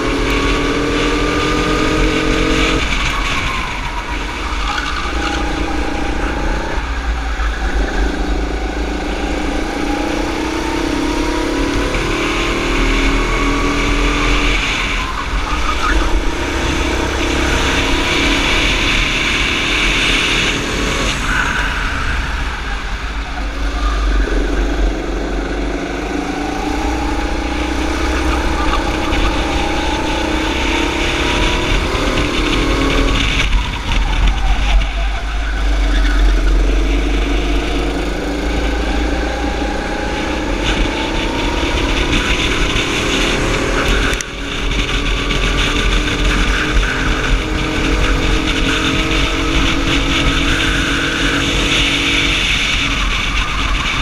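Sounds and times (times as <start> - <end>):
kart engine revving: 0.0 - 54.0
wind buffeting microphone: 0.0 - 54.0.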